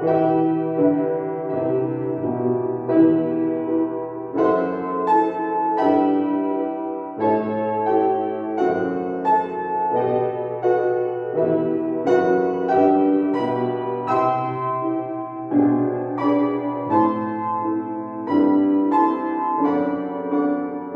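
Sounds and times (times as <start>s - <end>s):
solo piano chords and melody: 0.0s - 20.9s.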